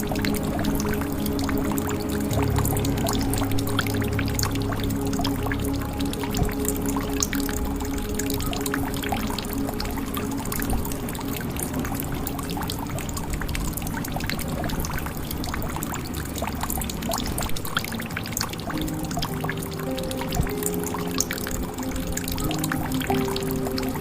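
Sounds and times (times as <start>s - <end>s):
soft music drone: 0.0s - 24.0s.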